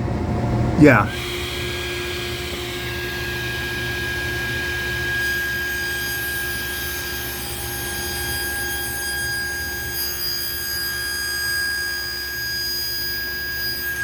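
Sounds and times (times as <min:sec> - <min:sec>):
table saw motor whine: 0:00.8 - 0:14.0.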